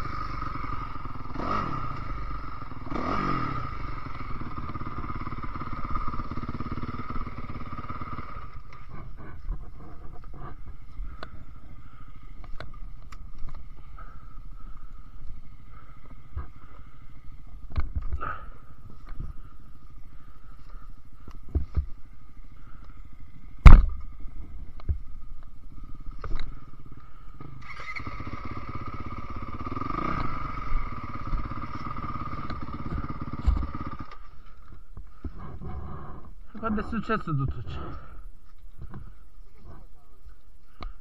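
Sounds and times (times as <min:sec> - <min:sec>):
dirt bike engine idling: 0:00.0 - 0:41.0.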